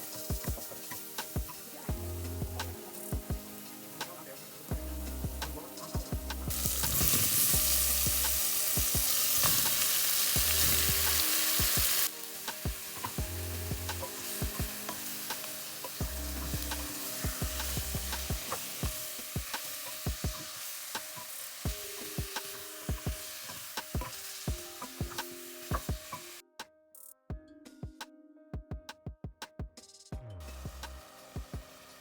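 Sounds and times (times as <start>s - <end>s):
food sizzling in hot oil: 0.0s - 26.4s, 30.4s - 32.0s.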